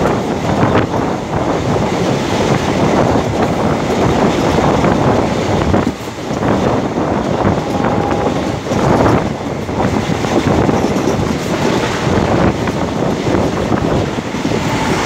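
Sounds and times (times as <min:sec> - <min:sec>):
train wheels rumbling on rails: 0:00.0 - 0:15.0
wind buffeting microphone: 0:00.0 - 0:15.0.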